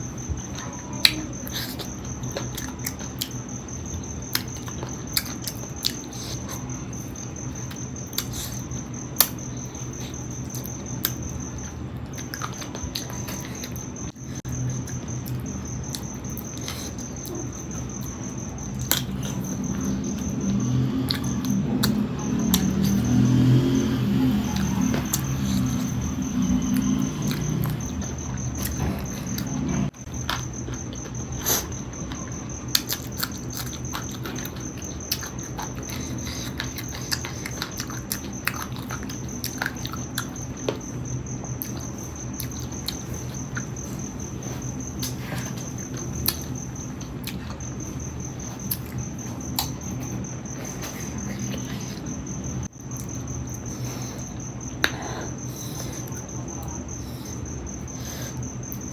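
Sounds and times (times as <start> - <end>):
cricket chirping: 0.0 - 58.9
chewing crunches and clicks: 0.5 - 3.4, 4.2 - 56.7.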